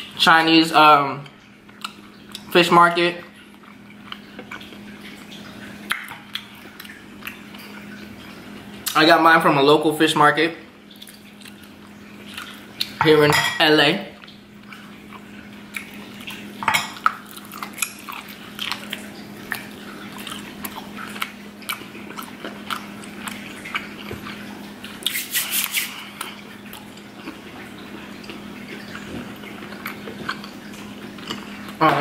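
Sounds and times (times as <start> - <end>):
chewing with wet mouth clicks: 1.2 - 2.5, 3.2 - 8.2, 10.9 - 13.0, 14.2 - 32.0.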